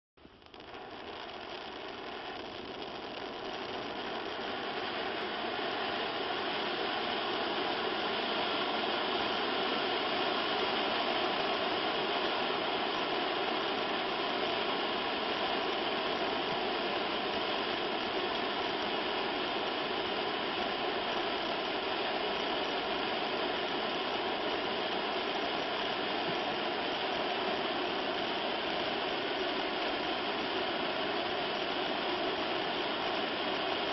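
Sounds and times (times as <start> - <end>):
fountain firework hissing: 0.2 - 33.9.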